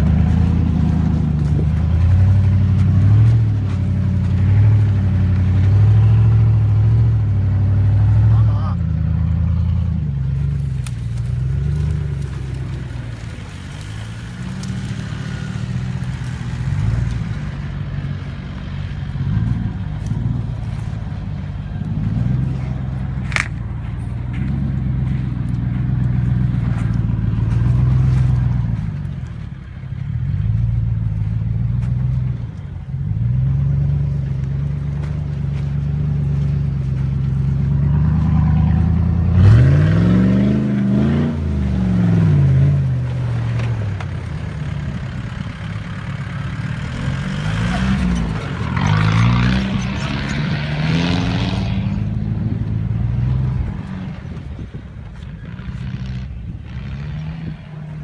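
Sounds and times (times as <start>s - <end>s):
engine running under load: 0.0s - 58.0s.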